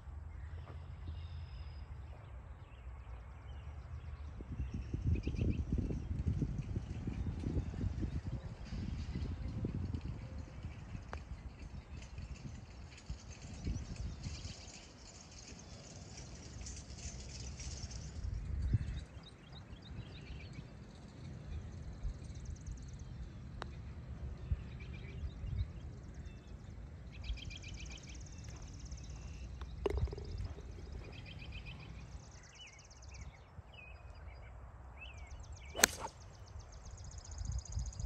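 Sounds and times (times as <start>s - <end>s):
songbirds trilling and chirping: 0.3s - 38.0s.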